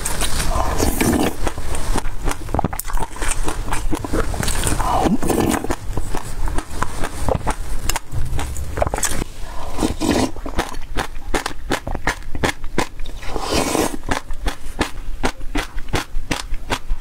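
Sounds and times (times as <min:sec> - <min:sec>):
crisp crackles of chewing seeds: 0:00.0 - 0:17.0.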